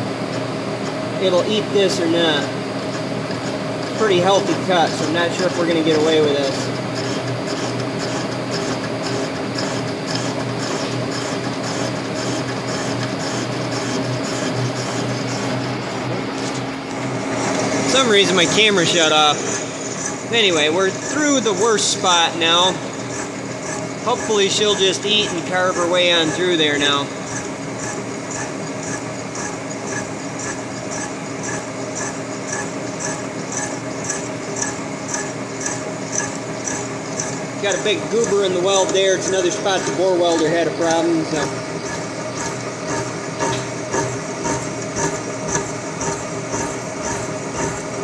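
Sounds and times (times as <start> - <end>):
boring mill machine drone: 0.0 - 48.0
cutter scraping metal: 1.5 - 48.0.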